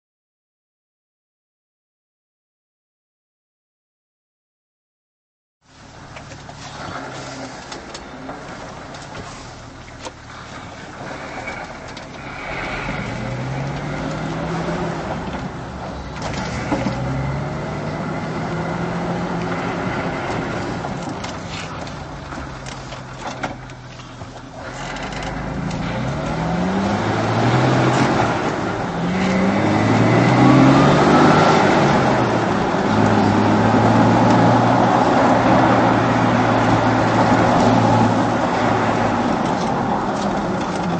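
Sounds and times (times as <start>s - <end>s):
car engine accelerating: 5.7s - 40.9s.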